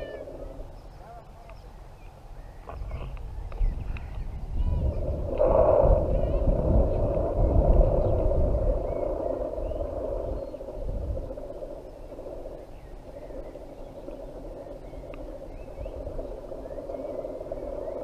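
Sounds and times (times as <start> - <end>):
faint bird chirps: 0.0 - 5.1, 7.4 - 18.0
steady rushing noise: 0.0 - 18.0
wind buffeting the microphone: 0.0 - 18.0.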